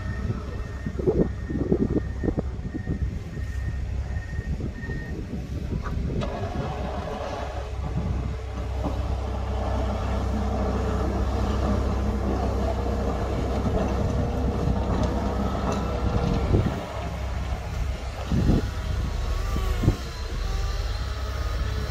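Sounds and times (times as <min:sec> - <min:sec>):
tractor engine droning: 0:00.0 - 0:21.9.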